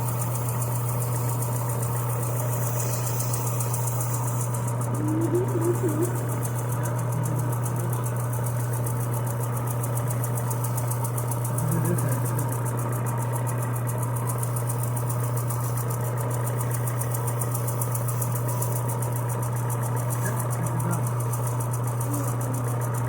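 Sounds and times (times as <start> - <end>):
electric sander running: 0.0 - 18.8, 19.4 - 23.0.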